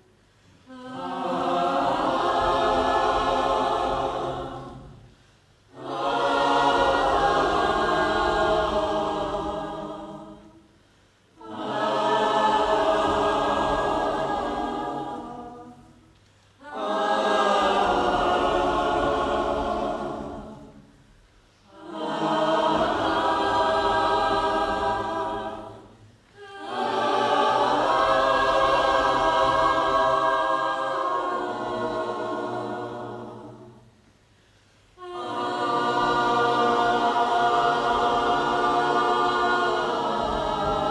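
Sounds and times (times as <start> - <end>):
choir singing unaccompanied: 0.0 - 34.0, 34.9 - 40.9.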